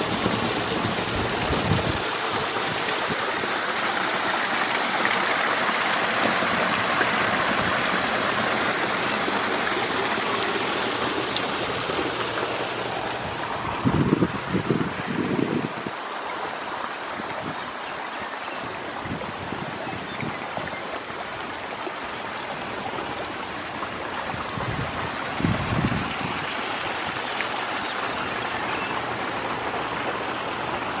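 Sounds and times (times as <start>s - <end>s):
water rushing over rocks: 0.0s - 31.0s.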